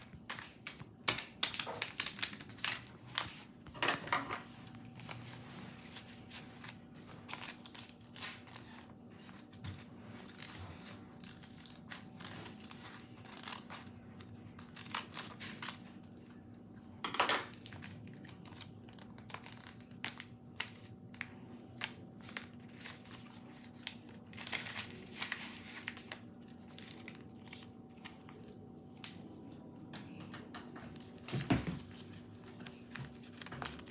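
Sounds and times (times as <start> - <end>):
paper crinkling and tearing: 0.0 - 3.8, 4.4 - 16.5, 17.5 - 29.3, 31.0 - 33.9.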